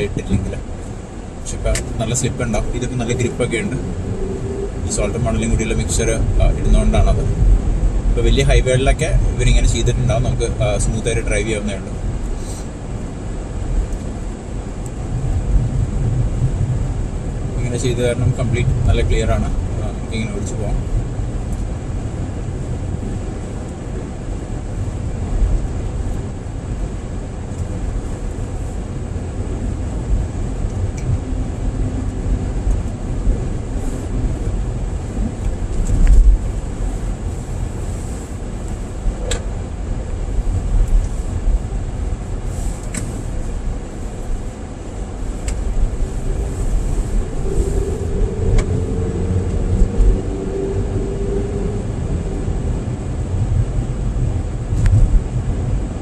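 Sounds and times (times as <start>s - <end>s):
car tyre and engine rumble: 0.0s - 56.0s.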